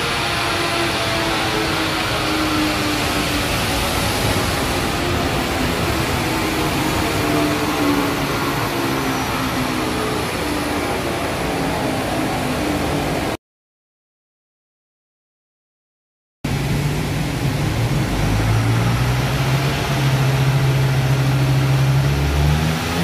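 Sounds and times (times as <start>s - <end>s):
diesel engine roaring: 0.0s - 13.4s, 16.5s - 23.0s.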